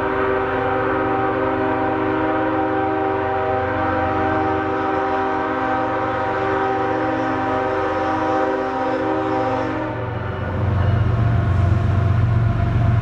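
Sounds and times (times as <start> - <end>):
locomotive air horn chord: 0.0 - 12.2
low rumble of approaching train: 0.0 - 13.0.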